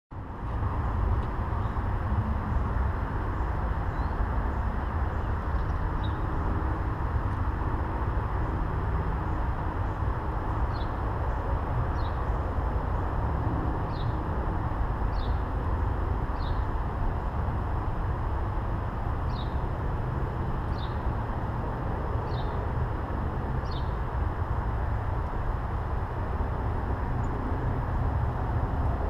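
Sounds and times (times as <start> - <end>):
low outdoor rumble: 0.1 - 29.0.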